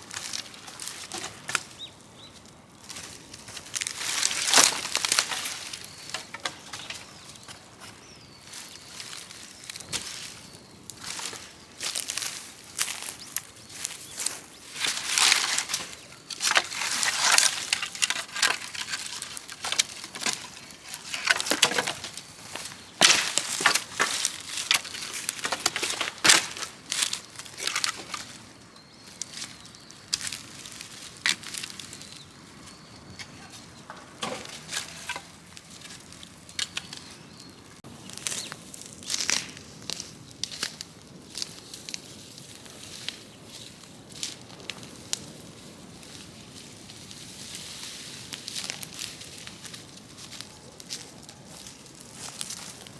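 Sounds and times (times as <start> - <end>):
dry branches and leaves crackling: 0.0 - 52.9.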